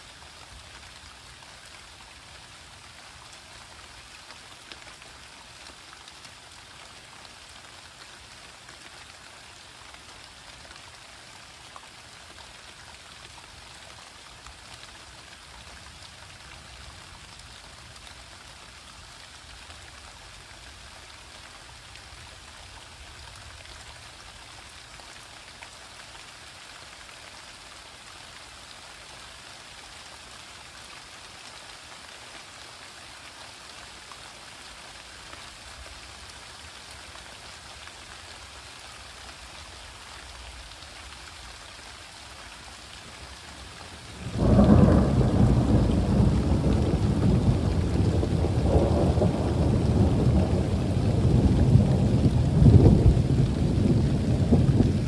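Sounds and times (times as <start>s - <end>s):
raindrops pattering: 0.0s - 55.0s
steady rain falling: 0.0s - 55.0s.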